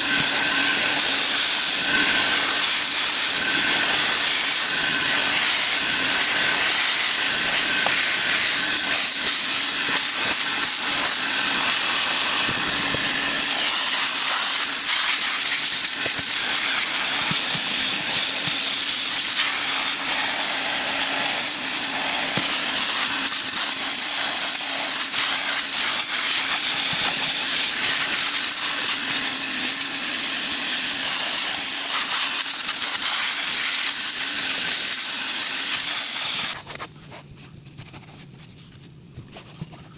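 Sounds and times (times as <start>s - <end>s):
pressure washer spray hissing: 0.0s - 36.6s.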